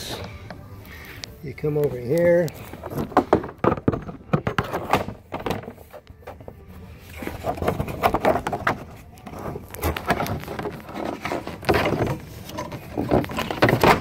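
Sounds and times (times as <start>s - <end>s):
plastic panel scraping and knocking: 2.6s - 14.0s.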